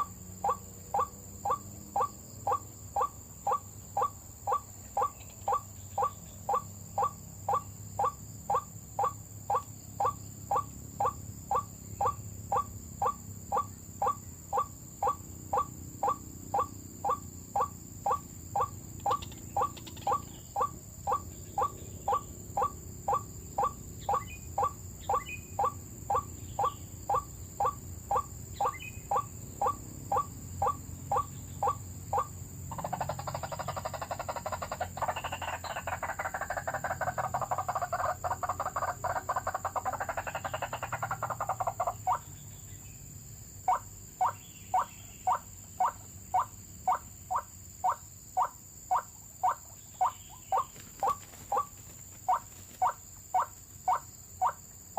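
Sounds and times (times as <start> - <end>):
waterhen croaking calls: 0.0 - 42.3, 43.6 - 54.6
dense chattering bird chorus: 0.0 - 54.7.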